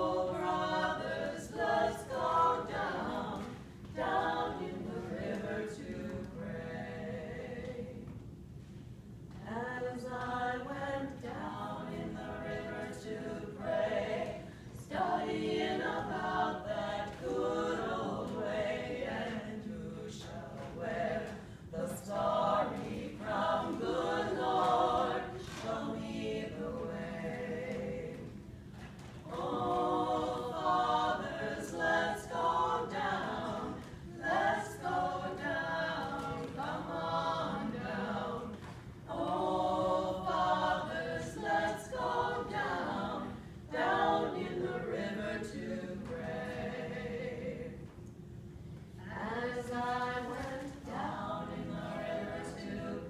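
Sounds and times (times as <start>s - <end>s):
choir singing: 0.0s - 8.1s, 9.4s - 28.5s, 29.2s - 47.9s, 49.0s - 53.0s.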